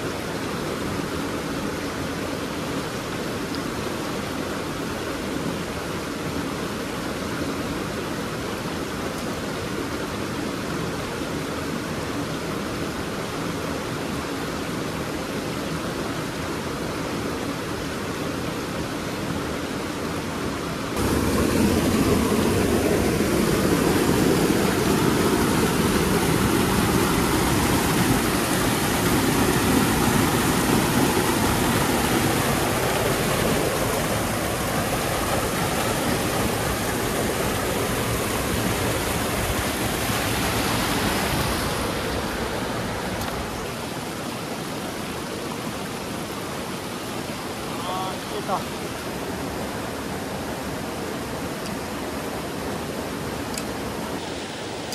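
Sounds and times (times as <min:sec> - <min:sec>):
rushing stream and waterfall: 0:00.0 - 0:54.9.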